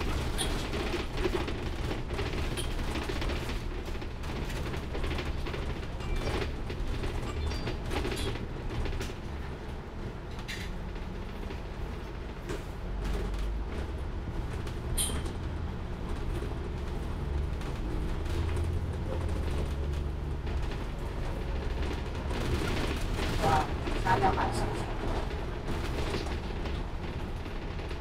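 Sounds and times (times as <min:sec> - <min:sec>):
bus body creaking and rattling: 0:00.0 - 0:28.0
bus engine and road rumble: 0:00.0 - 0:28.0.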